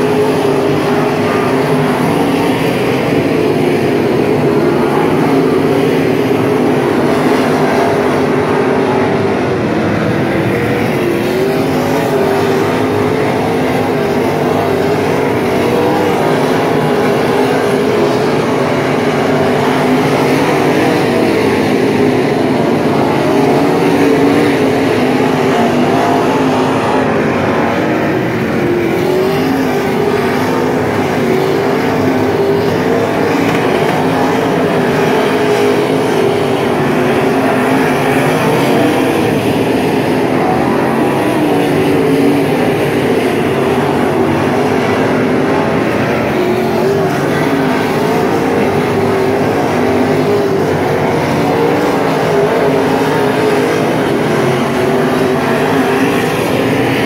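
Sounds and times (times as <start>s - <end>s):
race car engines at low revs: 0.0s - 57.0s.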